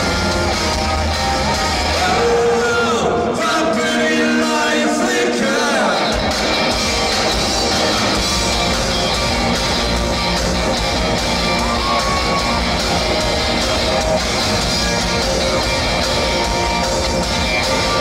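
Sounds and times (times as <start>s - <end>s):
electric guitar: 0.0s - 3.3s, 5.8s - 18.0s
live rock band playing: 0.0s - 3.4s, 5.9s - 18.0s.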